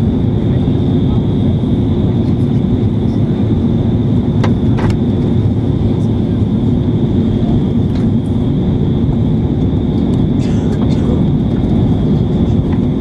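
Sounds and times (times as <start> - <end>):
jet cabin engine rumble: 0.0 - 13.0.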